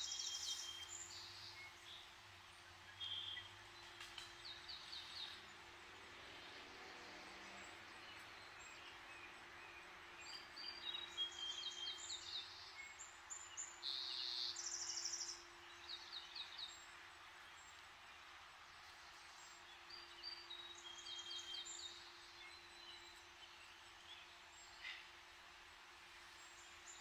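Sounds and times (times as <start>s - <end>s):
distant road traffic: 0.0s - 27.0s
faint steady hum: 0.0s - 27.0s
songbirds singing: 0.0s - 27.0s.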